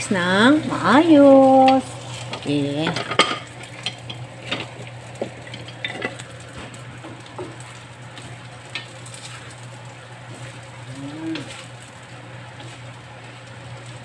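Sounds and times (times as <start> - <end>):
food sizzling in a pan: 0.0 - 14.0
steady low hum: 0.0 - 14.0.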